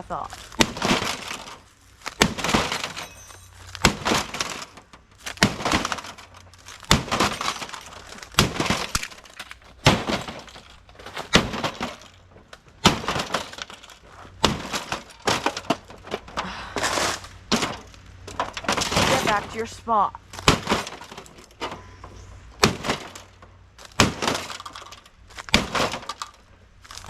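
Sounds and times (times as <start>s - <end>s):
glass breaking and crackling: 0.0s - 27.0s
blows smashing a tv: 0.4s - 19.6s, 20.3s - 21.8s, 22.6s - 27.0s.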